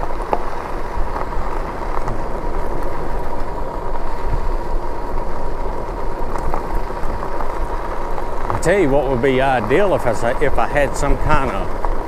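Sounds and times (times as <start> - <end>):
thin steady whine: 0.0 - 12.0
tyre noise: 0.0 - 12.0
wind rumble on microphone: 0.0 - 12.0.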